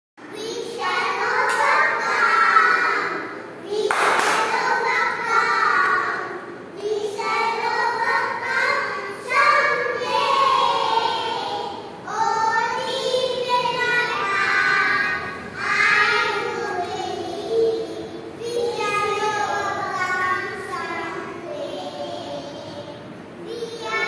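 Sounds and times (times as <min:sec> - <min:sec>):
children singing in unison: 0:00.4 - 0:24.0.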